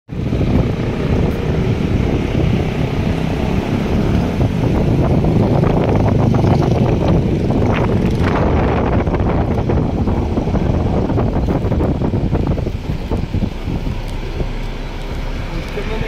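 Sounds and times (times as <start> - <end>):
road rumble: 0.1 - 16.0
wind fluttering on microphone: 0.1 - 16.0
wind noise at car window: 0.1 - 16.0.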